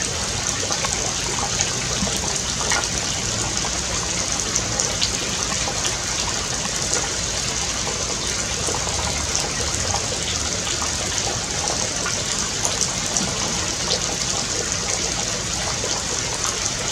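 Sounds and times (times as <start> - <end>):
flowing water rushing: 0.0 - 16.9.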